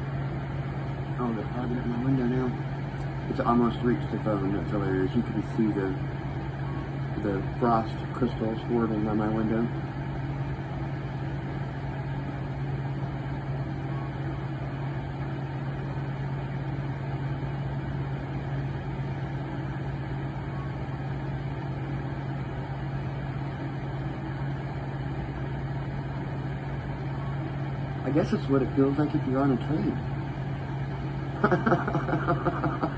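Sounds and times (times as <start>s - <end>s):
engine idling with low hum: 0.0s - 32.9s.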